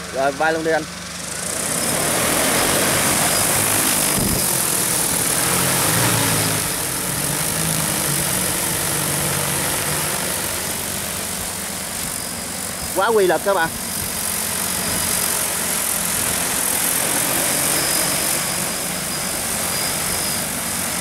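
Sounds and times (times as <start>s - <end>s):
drone rotors whirring: 0.0s - 21.0s.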